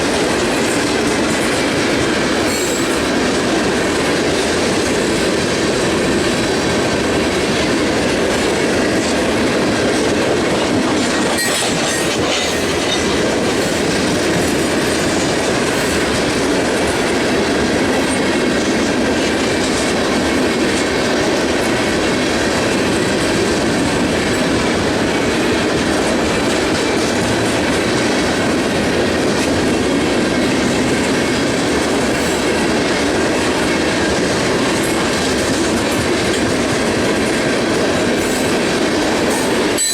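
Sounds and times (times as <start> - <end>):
freight train rumbling past: 0.0 - 39.9
train wheel clatter: 0.0 - 39.9.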